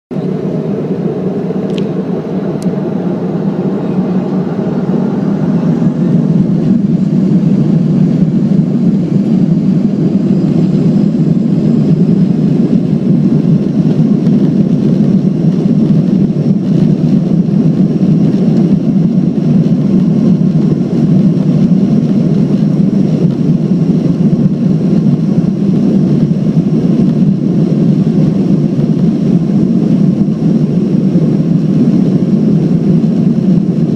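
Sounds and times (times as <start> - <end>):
jet engines at take-off power: 0.1 - 33.9.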